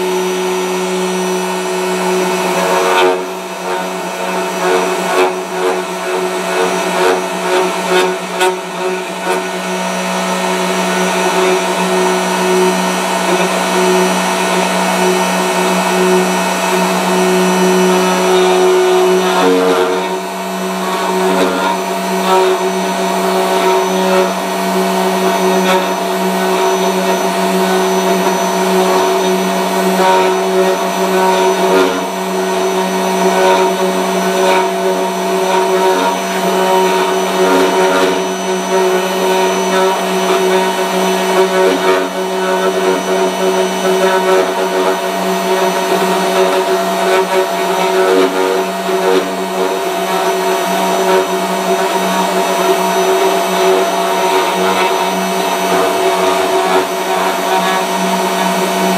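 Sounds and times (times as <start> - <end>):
router motor whining while carving wood: 0.0 - 58.9.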